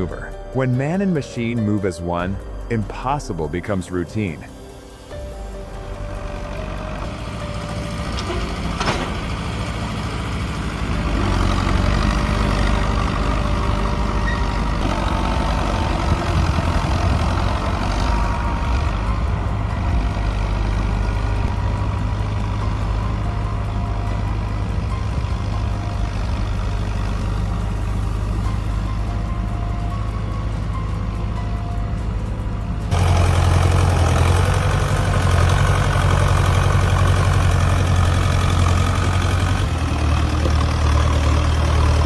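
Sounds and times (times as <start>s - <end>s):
heavy vehicle engine running: 0.0s - 42.0s.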